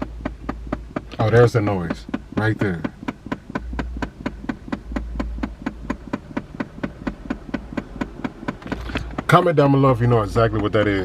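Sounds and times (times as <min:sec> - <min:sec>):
car starter rapid clicking: 0:00.0 - 0:11.0.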